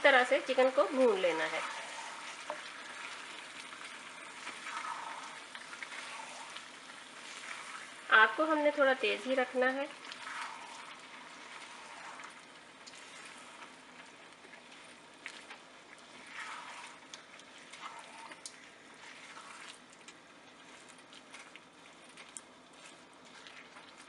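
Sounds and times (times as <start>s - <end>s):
faint sizzle of frying: 0.0s - 24.0s
spatula scraping pan: 0.4s - 20.0s.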